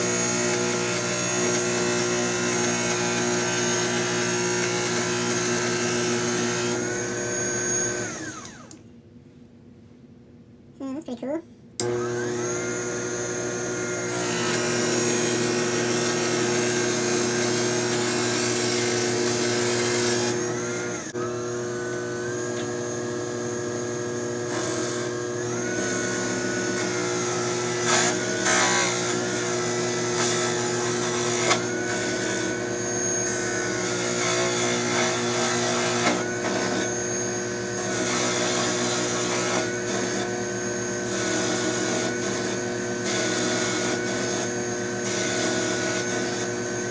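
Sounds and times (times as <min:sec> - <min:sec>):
lathe motor hum: 0:00.0 - 0:08.8, 0:11.8 - 0:46.9
lathe whine: 0:00.0 - 0:08.8, 0:11.8 - 0:46.9.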